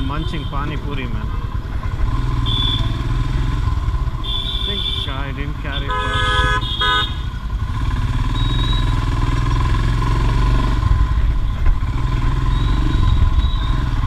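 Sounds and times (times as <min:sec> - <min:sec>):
motorcycle engine running: 0:01.2 - 0:14.0.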